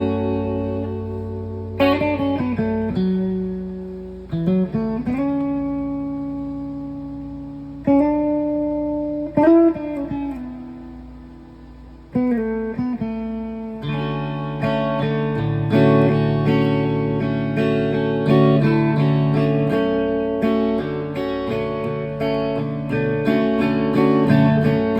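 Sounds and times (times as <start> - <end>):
clean electric guitar chords: 0.0 - 24.9.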